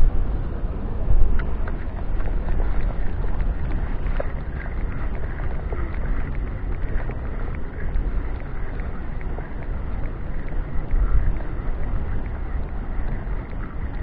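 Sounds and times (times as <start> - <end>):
wind buffeting microphone: 0.0 - 14.0
faint clicks: 1.2 - 14.0.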